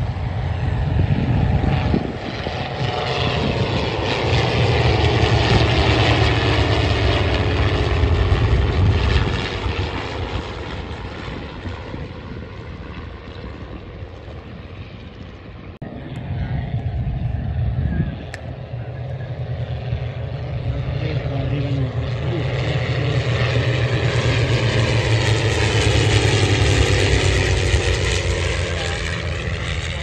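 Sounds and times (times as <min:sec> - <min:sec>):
propeller aircraft droning overhead: 0:00.0 - 0:30.0.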